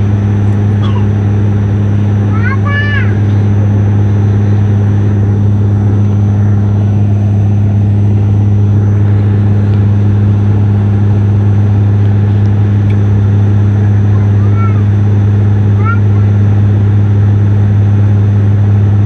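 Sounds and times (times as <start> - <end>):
propeller hum in cabin: 0.0 - 19.0.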